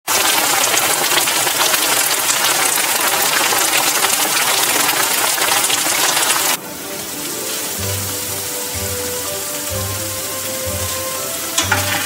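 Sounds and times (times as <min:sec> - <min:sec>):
mushrooms sizzling in butter: 0:00.3 - 0:12.0.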